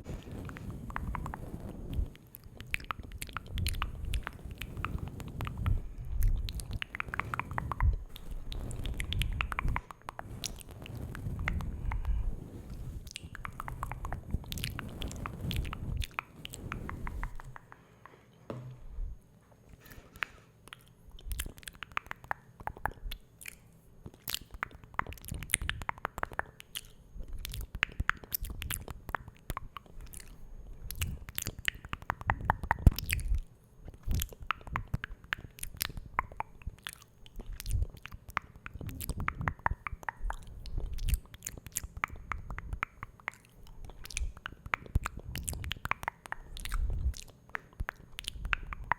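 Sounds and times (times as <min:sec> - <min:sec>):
wet mouth clicks and smacks: 0:00.2 - 0:18.2, 0:19.8 - 0:48.9.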